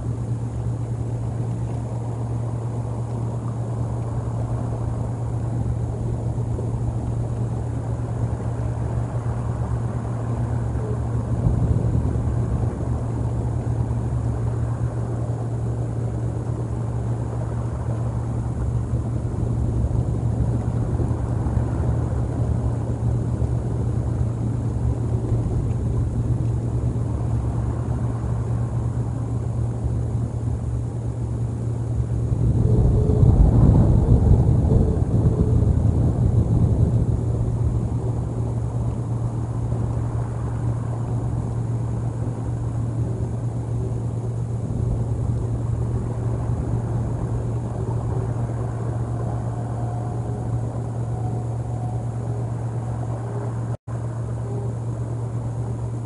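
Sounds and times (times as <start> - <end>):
constant low hum: 0.0 - 56.0
low rumble: 0.0 - 56.0.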